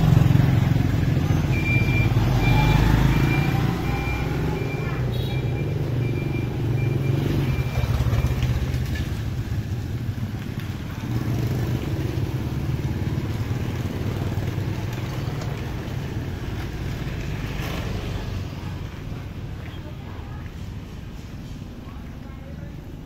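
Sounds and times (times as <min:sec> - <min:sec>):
scooters passing by: 0:00.0 - 0:23.0.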